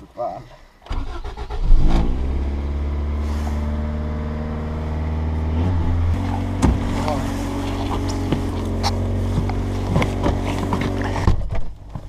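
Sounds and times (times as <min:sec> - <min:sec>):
car engine starting: 0:00.8 - 0:12.0
car engine idling: 0:01.0 - 0:12.0.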